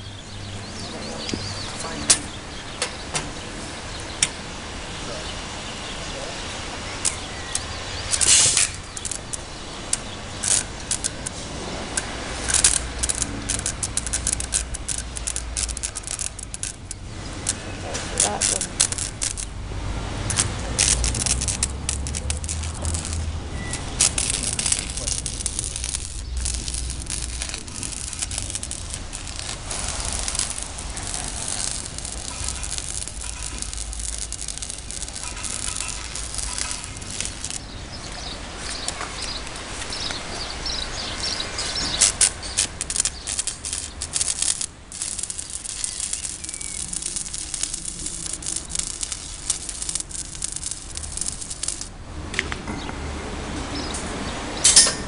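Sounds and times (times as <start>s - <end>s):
welding arc crackling and hissing: 0.0s - 52.7s.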